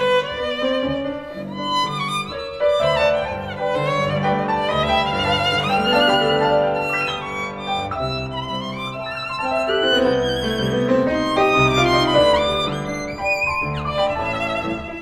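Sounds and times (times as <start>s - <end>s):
solo violin melody: 0.0s - 15.0s.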